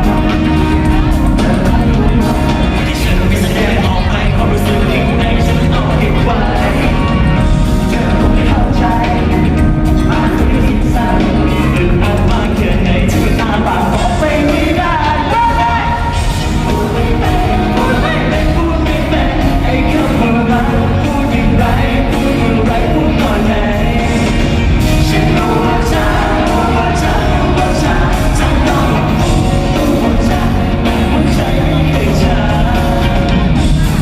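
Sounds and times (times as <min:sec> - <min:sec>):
pop-rock band with singing: 0:00.0 - 0:34.0
steady drum beat: 0:00.0 - 0:34.0.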